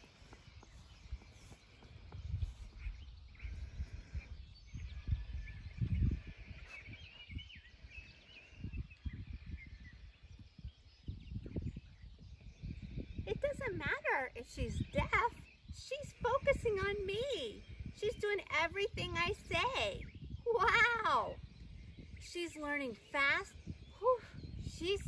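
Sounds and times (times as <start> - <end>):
birds chirping: 0.0 - 25.0
wind rumble on microphone: 0.0 - 25.0.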